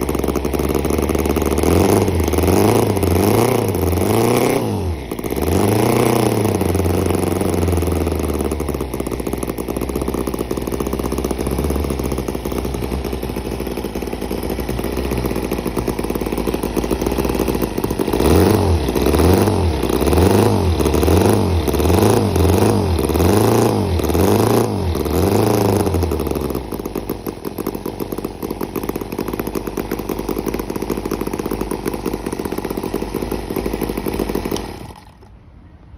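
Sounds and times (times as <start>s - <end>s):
motorcycle engine revving and idling: 0.0s - 35.4s.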